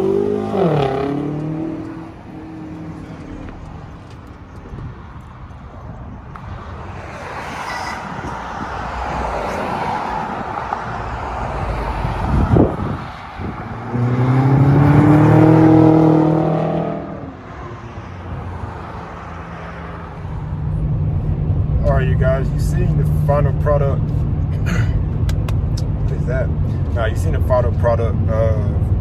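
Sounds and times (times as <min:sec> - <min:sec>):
car engine droning: 0:00.0 - 0:29.0
road noise: 0:00.0 - 0:29.0.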